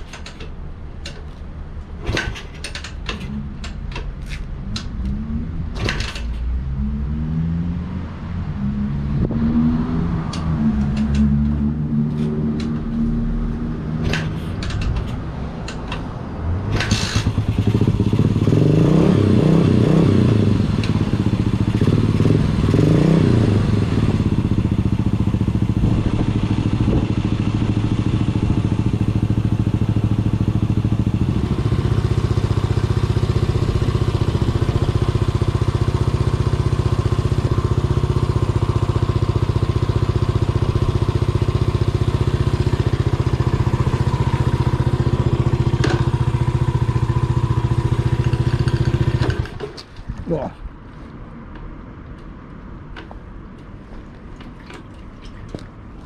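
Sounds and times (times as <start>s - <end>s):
motorcycle engine revving and idling: 2.0s - 50.0s.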